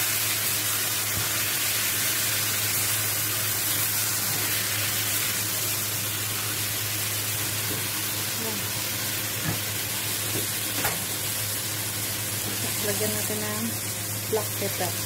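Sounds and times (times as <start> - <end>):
chicken sizzling in a pot: 0.0 - 15.0.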